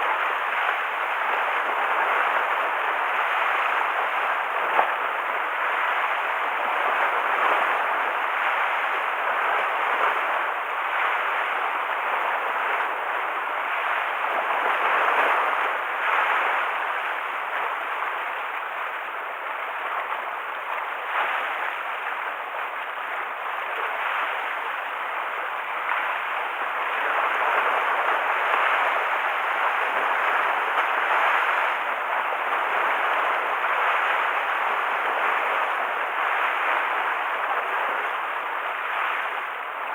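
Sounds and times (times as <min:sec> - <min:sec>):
rough sea waves splashing: 0:00.0 - 0:39.9.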